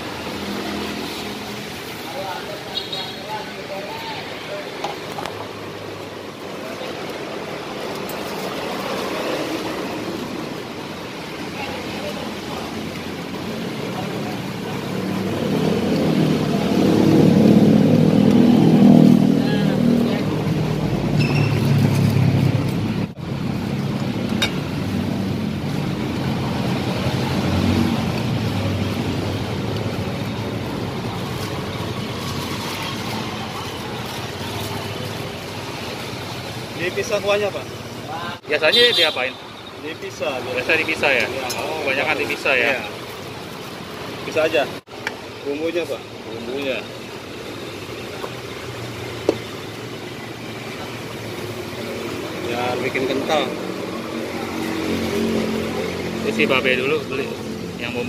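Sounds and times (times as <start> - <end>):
outdoor background noise: 0.0 - 58.0
traffic engine rumble: 0.0 - 58.0.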